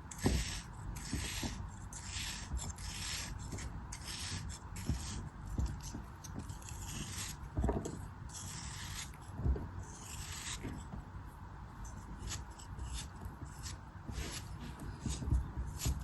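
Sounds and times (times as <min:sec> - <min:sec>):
blade scraping craft material: 0:00.0 - 0:11.0, 0:11.8 - 0:16.0.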